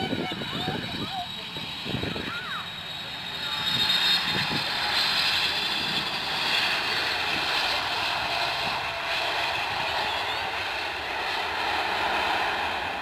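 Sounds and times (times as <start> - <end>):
jet engines roaring and whining: 0.0 - 13.0.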